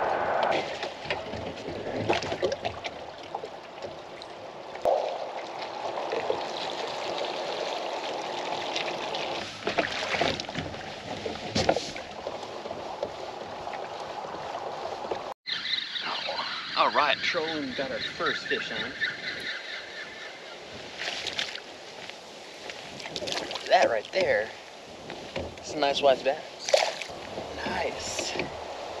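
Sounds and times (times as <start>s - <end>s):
water lapping against kayak hull: 0.2s - 15.3s, 20.6s - 29.0s.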